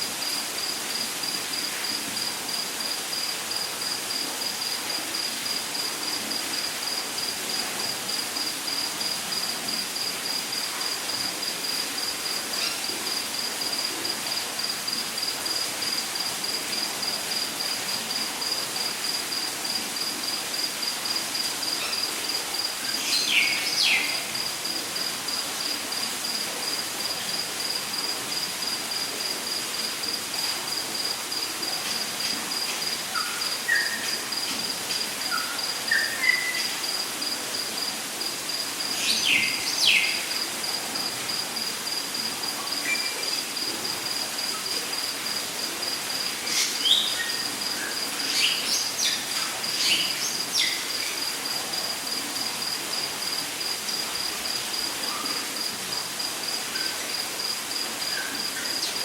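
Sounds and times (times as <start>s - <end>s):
steady hiss: 0.0s - 59.0s
insect chirping high-pitched: 0.2s - 59.0s.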